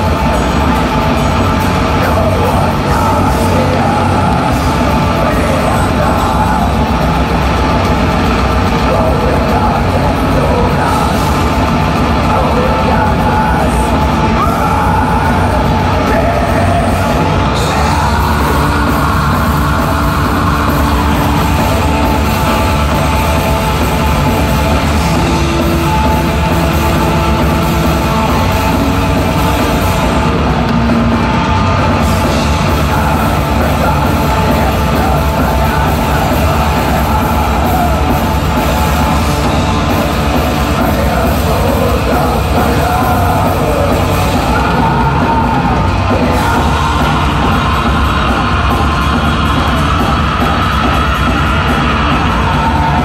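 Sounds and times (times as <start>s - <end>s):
distorted electric guitars: 0.0s - 53.0s
drums: 0.0s - 53.0s.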